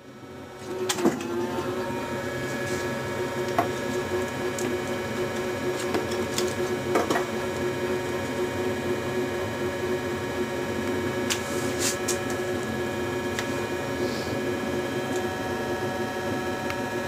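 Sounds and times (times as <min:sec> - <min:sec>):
hydraulic press humming: 0:00.4 - 0:17.0.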